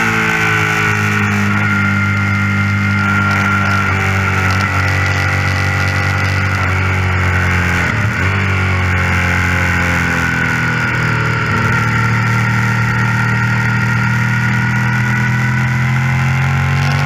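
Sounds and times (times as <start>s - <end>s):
motorcycle engine revving high: 0.0s - 17.0s.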